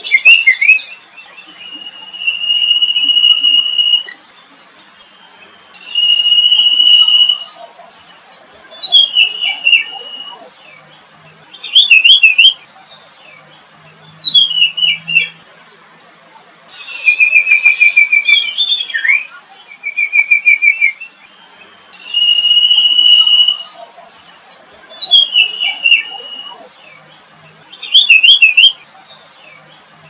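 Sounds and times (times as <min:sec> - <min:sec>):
songbird chirping and trilling: 0:00.0 - 0:30.0.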